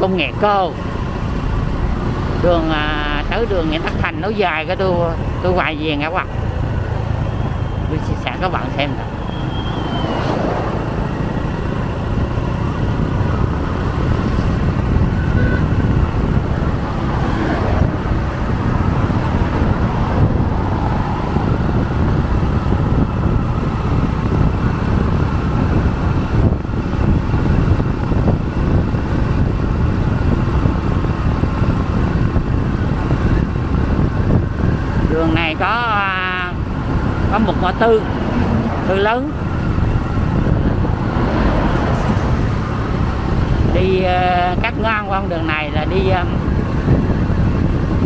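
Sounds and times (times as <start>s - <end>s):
vehicle road and engine noise: 0.0s - 48.0s
wind rush on microphone: 0.0s - 48.0s.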